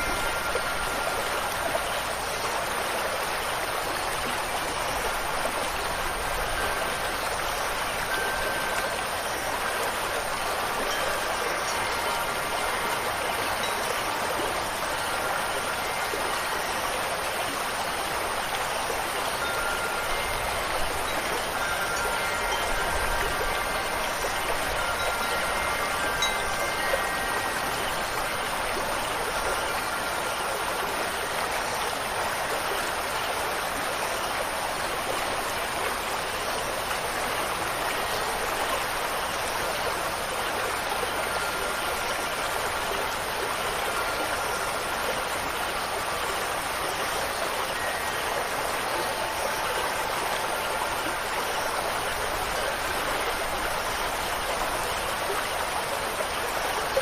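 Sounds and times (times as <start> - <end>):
rushing water: 0.0 - 57.0
wind chimes ringing: 0.0 - 57.0.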